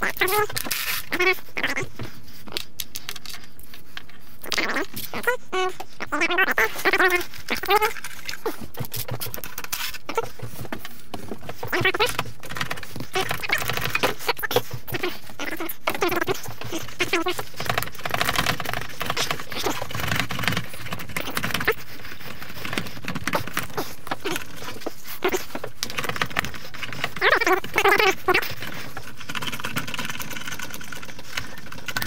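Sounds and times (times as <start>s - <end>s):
rapid clicking: 0.0s - 32.0s.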